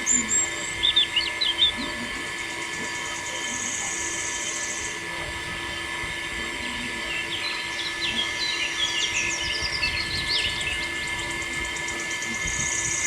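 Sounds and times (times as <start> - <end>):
small birds chirping: 0.0 - 5.3, 6.0 - 13.0
high pulsing buzz: 0.0 - 13.0
steady background hum: 0.0 - 13.0.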